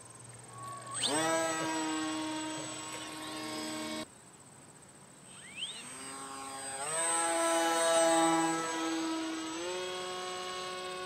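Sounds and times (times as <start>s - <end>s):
model plane motor whine: 0.0s - 4.1s, 5.2s - 11.0s.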